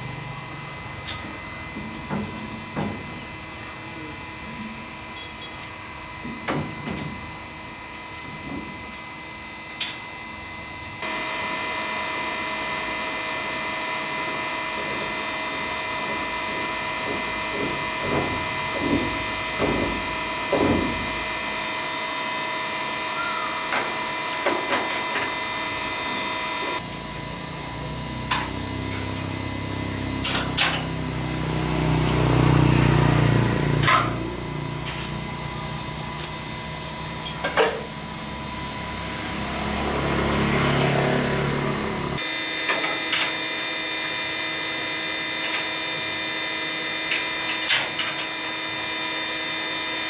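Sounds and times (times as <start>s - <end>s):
low-pitched machine sound: 0.0s - 42.4s
electric power tool whining: 4.6s - 50.0s.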